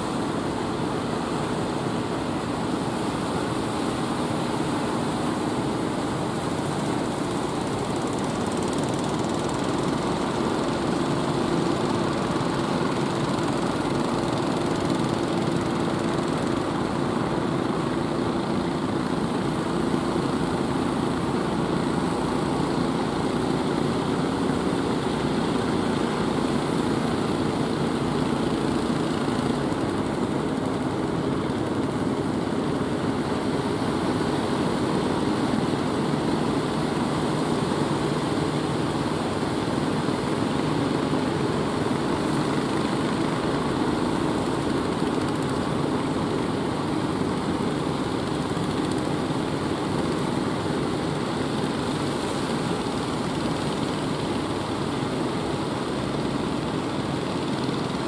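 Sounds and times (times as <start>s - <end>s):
boat engines running hard: 0.0s - 58.0s.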